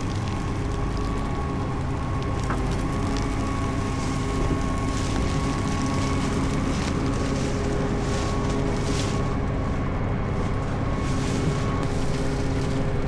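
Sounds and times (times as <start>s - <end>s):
diesel engine droning: 0.0s - 13.0s
humming tones from drives: 0.0s - 13.0s.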